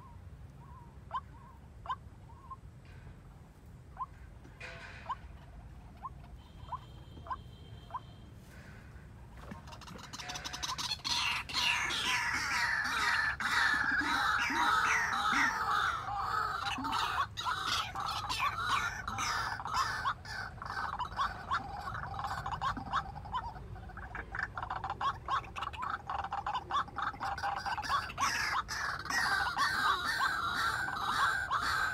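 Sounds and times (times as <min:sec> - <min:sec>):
waterhens calling: 0:03.8 - 0:31.9.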